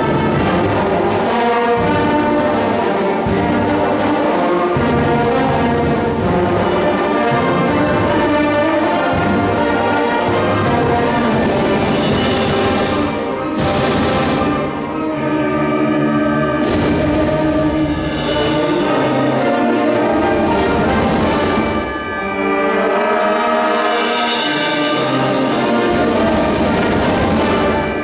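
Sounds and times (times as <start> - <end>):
brass section: 0.0 - 28.0
concert band playing: 0.0 - 28.0.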